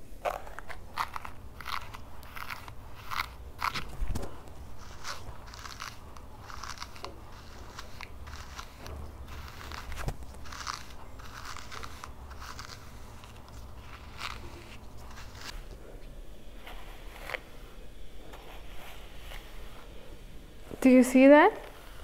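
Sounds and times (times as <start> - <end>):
brush dragging through wet hair: 1.0 - 15.8, 16.5 - 22.0.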